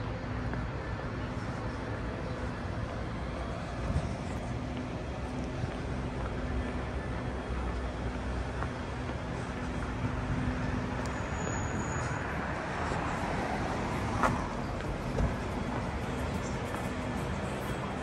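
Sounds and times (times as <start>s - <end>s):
city traffic road noise: 0.0s - 18.0s.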